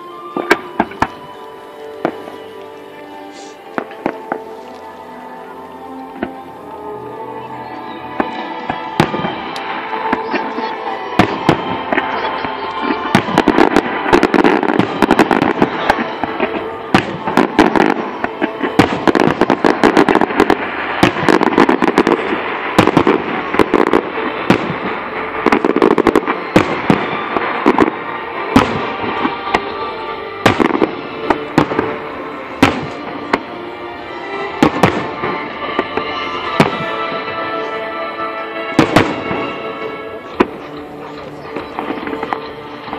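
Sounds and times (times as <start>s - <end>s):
music playing: 0.0s - 42.9s.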